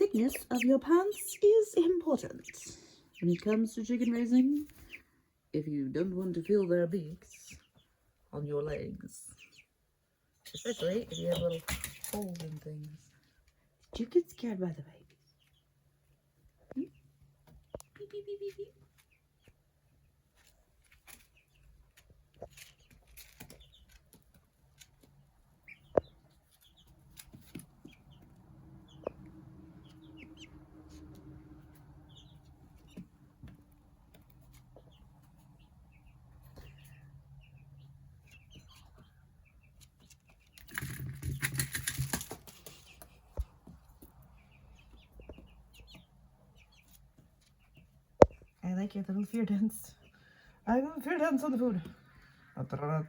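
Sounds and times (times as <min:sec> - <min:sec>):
chick peeping faintly: 0:00.0 - 0:53.0.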